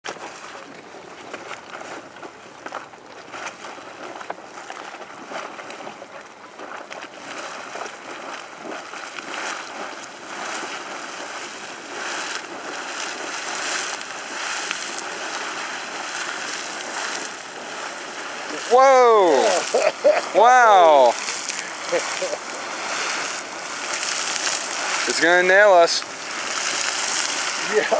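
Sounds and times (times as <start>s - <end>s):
boiling water bubbling and splashing: 0.0s - 27.9s.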